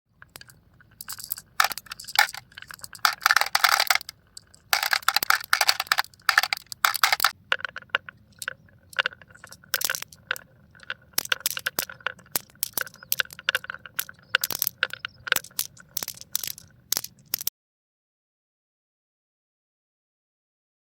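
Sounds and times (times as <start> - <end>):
marbles rattling down a track: 0.3 - 17.5.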